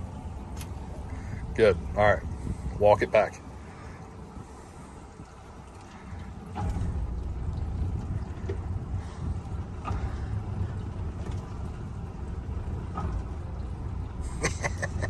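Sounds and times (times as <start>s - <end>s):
boat motors rumbling: 0.0s - 15.0s.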